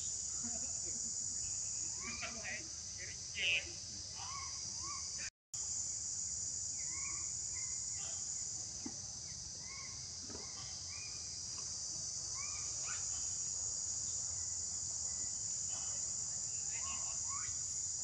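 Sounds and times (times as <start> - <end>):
insect chorus drone: 0.0 - 18.0.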